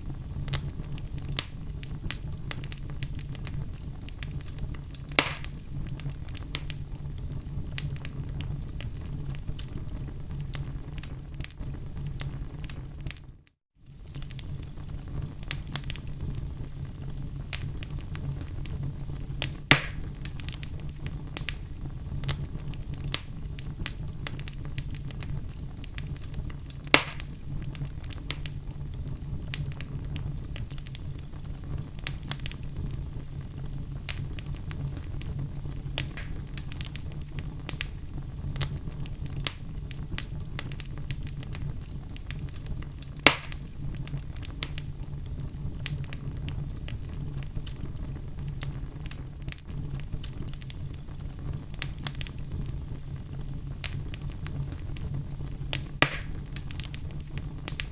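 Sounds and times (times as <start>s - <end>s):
log fire crackling: 0.0s - 57.9s
loud fire pops: 0.0s - 57.9s
low steady fire rumble: 0.0s - 57.9s.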